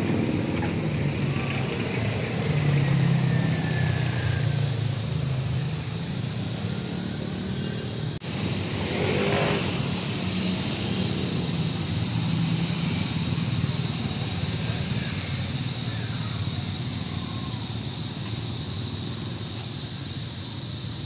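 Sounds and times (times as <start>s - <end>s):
road noise: 0.0s - 21.0s
vehicle engine drone: 0.0s - 21.0s.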